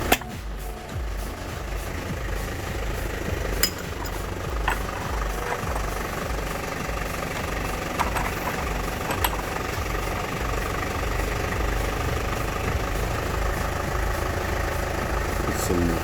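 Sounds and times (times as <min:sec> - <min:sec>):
motor droning: 0:00.0 - 0:16.0.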